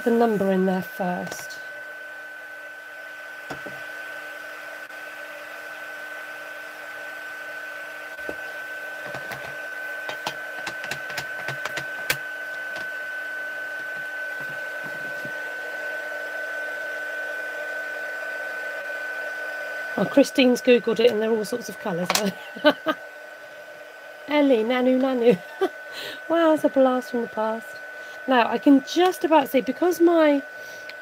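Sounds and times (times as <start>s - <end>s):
heat tool whine: 0.0s - 31.0s.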